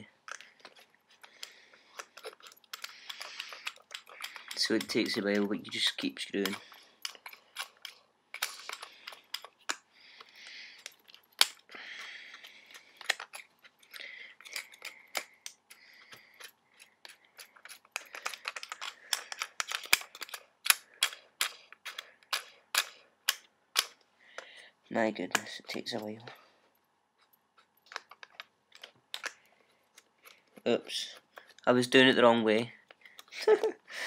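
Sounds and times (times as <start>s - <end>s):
plastic and metal clicks: 0.2s - 24.5s, 27.2s - 31.7s.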